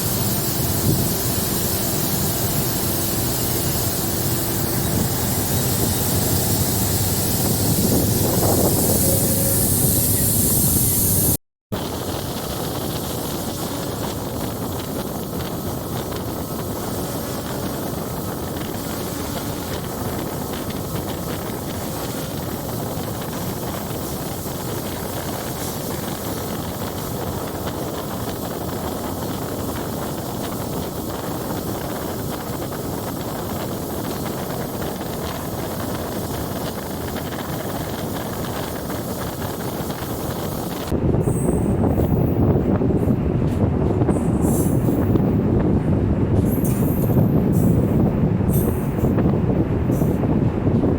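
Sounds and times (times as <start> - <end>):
low train rumble: 0.0 - 50.9
train running: 0.0 - 50.9
wind buffeting microphone: 0.0 - 50.9.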